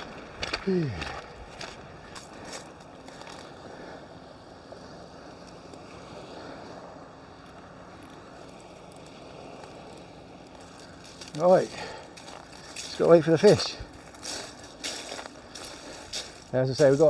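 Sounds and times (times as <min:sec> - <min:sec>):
water: 0:00.0 - 0:17.0
wind: 0:00.0 - 0:17.0.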